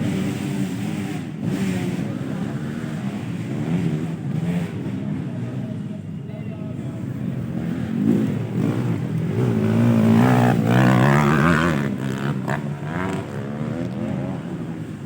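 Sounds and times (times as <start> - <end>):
motocross bikes revving: 0.0 - 5.8, 7.0 - 15.0.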